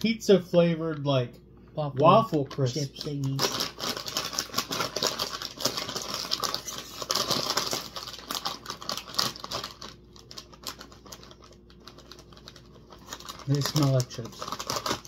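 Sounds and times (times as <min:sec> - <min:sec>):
plastic snack bag crackling: 0:02.3 - 0:15.0.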